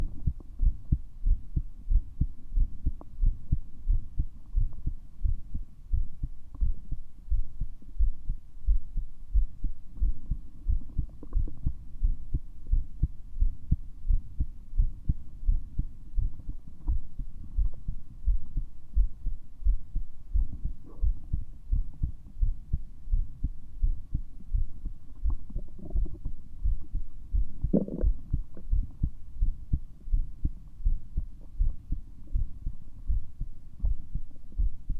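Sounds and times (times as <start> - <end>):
heartbeat through stethoscope: 0.0 - 34.9.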